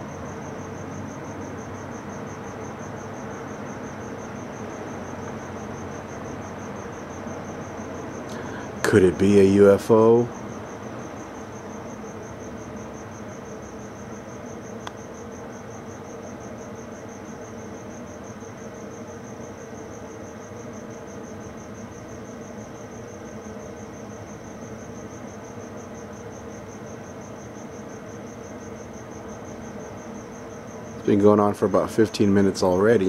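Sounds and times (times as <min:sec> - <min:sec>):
crickets chirping: 0:00.0 - 0:33.0
steady low hum: 0:00.0 - 0:33.0.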